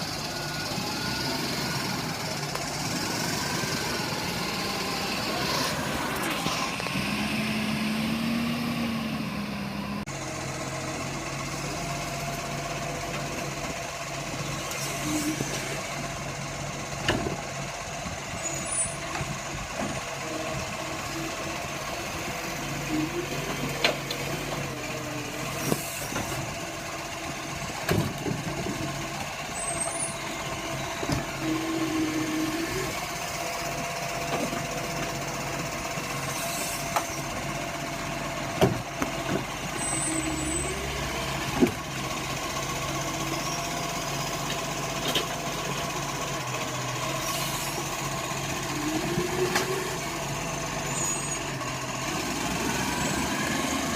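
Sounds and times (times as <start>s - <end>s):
truck engine running: 0.0s - 53.9s.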